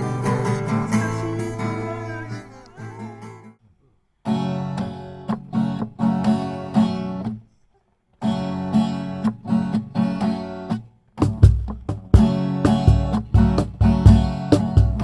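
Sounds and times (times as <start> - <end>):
acoustic guitar strumming chords: 0.0 - 3.6, 4.3 - 7.4, 8.2 - 15.0.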